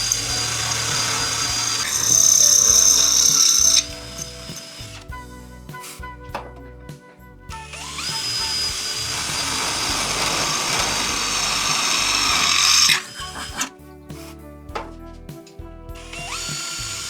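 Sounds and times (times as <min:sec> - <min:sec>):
angle grinder grinding: 0:00.0 - 0:06.6, 0:07.5 - 0:17.0
background music: 0:00.0 - 0:17.0.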